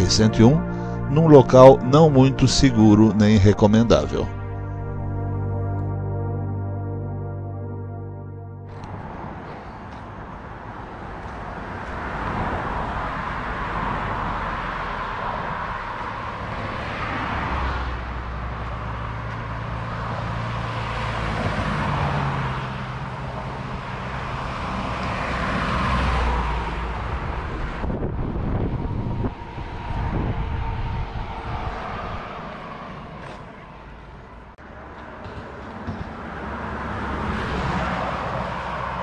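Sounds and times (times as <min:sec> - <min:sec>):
highway traffic passing: 0:00.0 - 0:39.0
truck passing with low rumble: 0:03.0 - 0:39.0.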